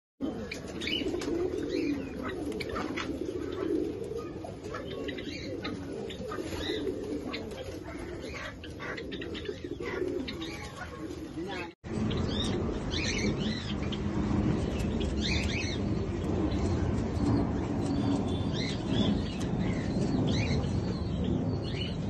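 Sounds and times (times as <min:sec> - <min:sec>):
pigeons cooing: 0:00.2 - 0:22.0.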